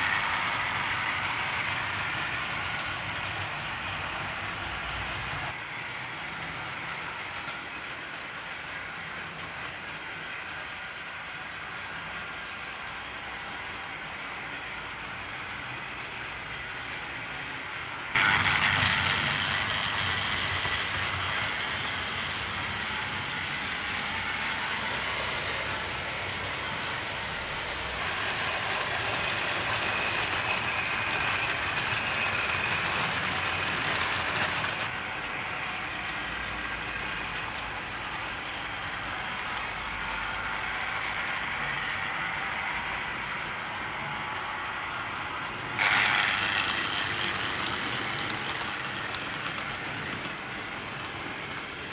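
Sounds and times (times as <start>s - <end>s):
model train motor whirring: 0.0s - 51.9s
wheels rattling on rails: 0.0s - 51.9s.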